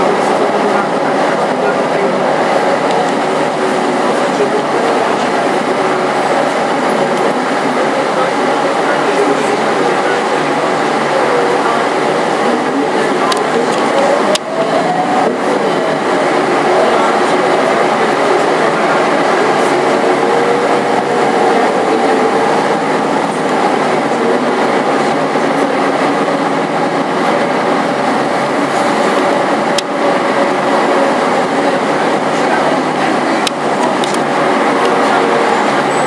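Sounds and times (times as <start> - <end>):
bus engine and road noise: 0.0 - 36.0
drivetrain whine: 0.0 - 36.0.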